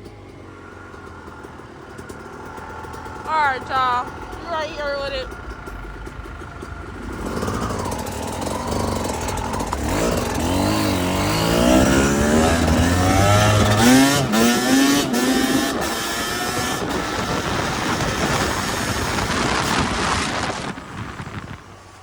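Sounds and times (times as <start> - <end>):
dirt bike engine accelerating: 0.0 - 22.0
wind and road noise: 0.0 - 22.0.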